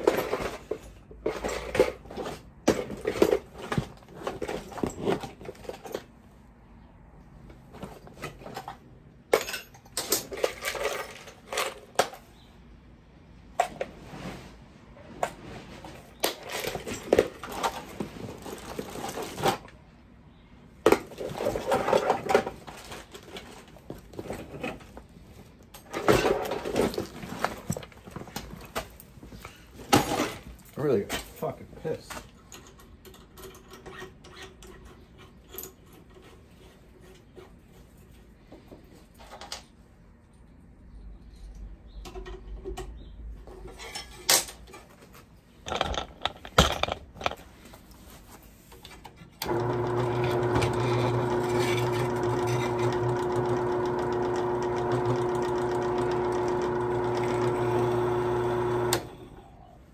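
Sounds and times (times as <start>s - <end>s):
tools and metal parts clattering: 0.0s - 6.4s, 7.4s - 12.5s, 15.2s - 19.8s, 20.8s - 38.2s, 41.3s - 59.0s.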